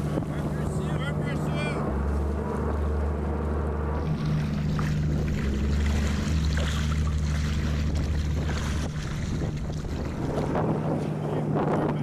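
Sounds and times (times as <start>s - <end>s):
diesel boat engines humming: 0.0s - 12.0s
water splashing and sloshing: 0.0s - 12.0s.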